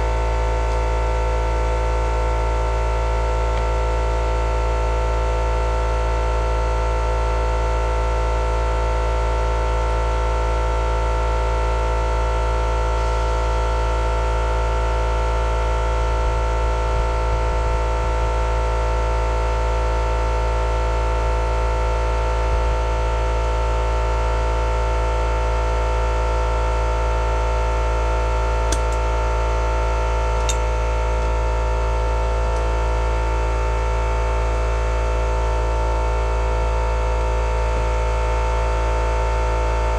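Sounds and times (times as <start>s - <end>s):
steady drone hum: 0.0s - 6.6s, 11.2s - 39.9s.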